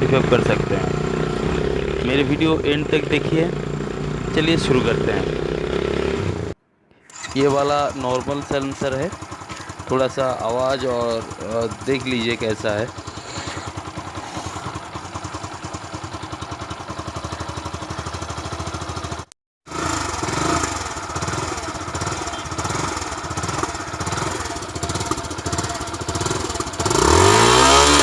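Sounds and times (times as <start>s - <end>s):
motorcycle engine idling: 0.0s - 28.0s
motorcycle engine revving: 0.0s - 28.0s.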